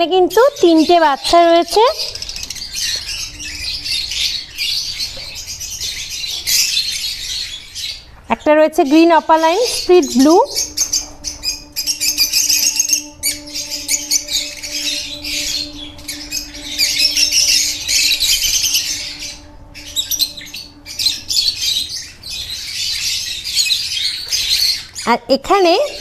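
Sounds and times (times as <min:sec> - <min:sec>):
faint steady hum: 0:00.0 - 0:26.0
lovebirds chattering and squawking: 0:00.3 - 0:26.0.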